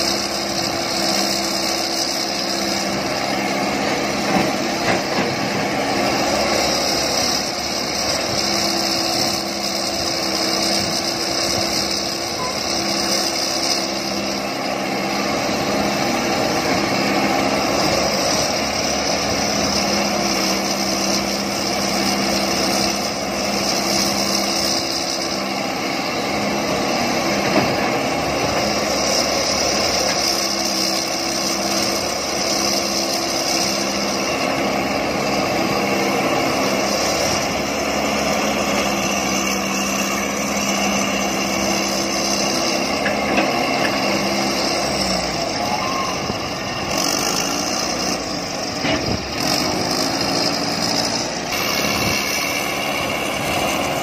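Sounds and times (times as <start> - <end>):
excavator diesel engine running: 0.0 - 54.0
other excavators working: 0.0 - 54.0.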